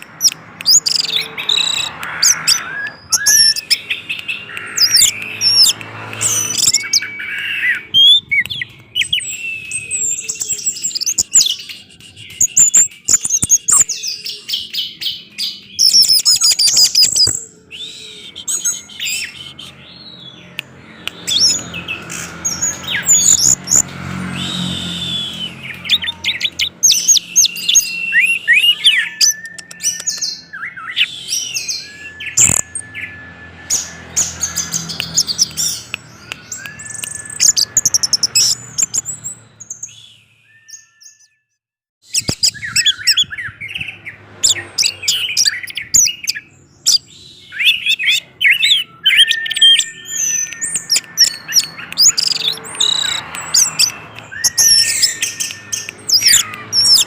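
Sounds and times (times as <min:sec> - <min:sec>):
thrush singing: 0:00.0 - 0:40.0, 0:42.5 - 0:57.0.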